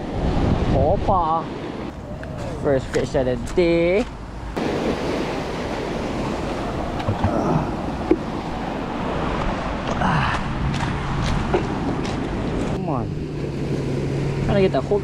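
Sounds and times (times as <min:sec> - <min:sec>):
wind on microphone: 0:00.0 - 0:14.6
ocean surf washing ashore: 0:00.0 - 0:15.0.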